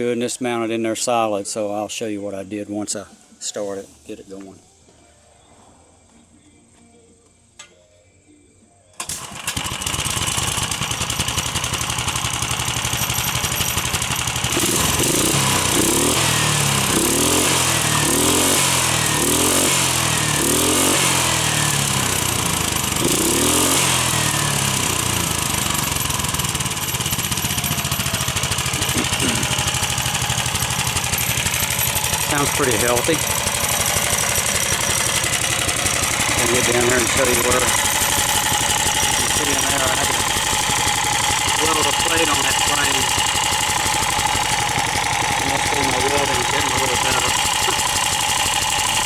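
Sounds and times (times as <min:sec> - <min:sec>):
tractor engine revving: 0:09.0 - 0:49.0.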